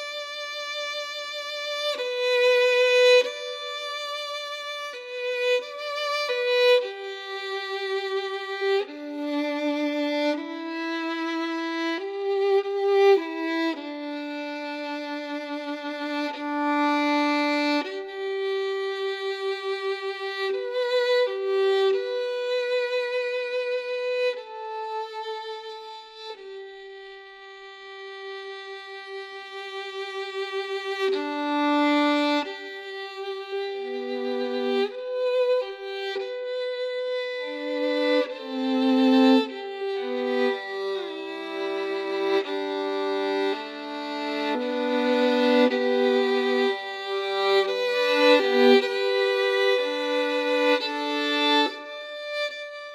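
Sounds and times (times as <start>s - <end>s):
solo violin slow melody: 0.0s - 52.9s.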